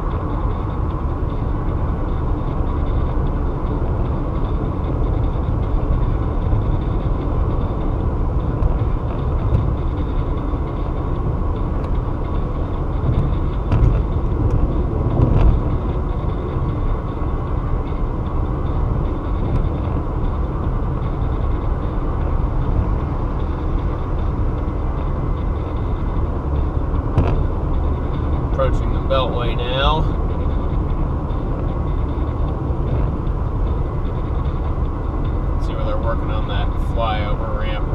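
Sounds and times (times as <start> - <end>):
car road noise on highway: 0.0 - 37.9.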